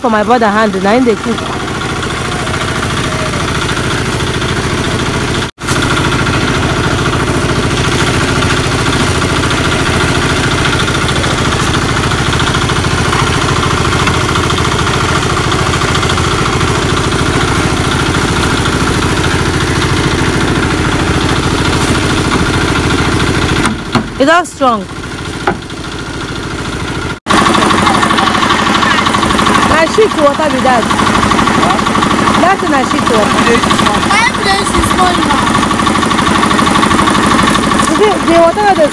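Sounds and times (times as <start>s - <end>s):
motor engine running: 0.0s - 38.9s.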